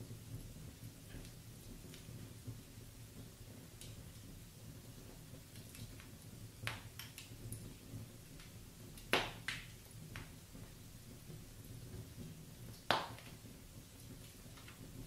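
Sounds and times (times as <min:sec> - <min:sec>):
burning logs popping: 0:00.0 - 0:15.0
low rumble of flames: 0:00.0 - 0:15.0.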